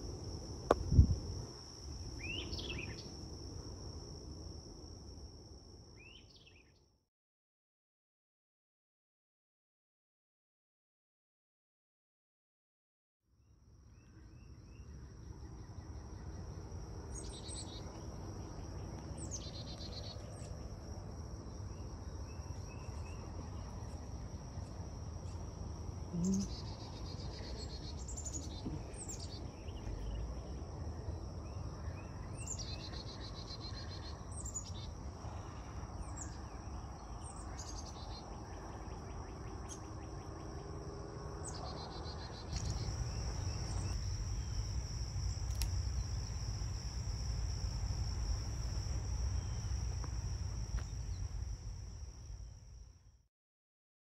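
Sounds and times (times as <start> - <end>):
high-pitched insect trill: 0.0 - 6.8, 14.0 - 35.2, 35.8 - 53.0.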